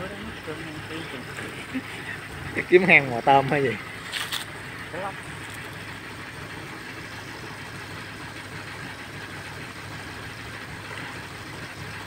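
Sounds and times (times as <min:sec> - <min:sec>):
motor running steadily: 0:00.0 - 0:12.0.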